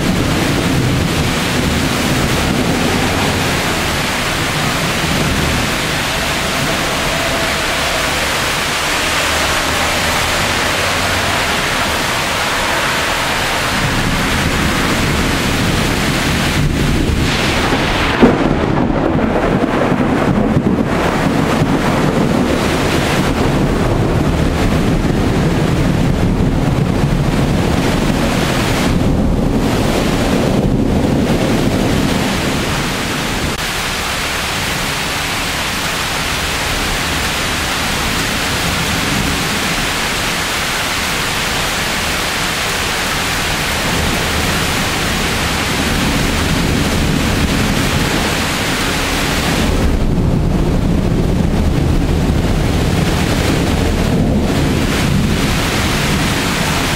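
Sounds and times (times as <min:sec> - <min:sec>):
deep thunder rumble: 0:00.0 - 0:33.6, 0:41.4 - 0:56.9
heavy rain pouring: 0:00.0 - 0:56.9.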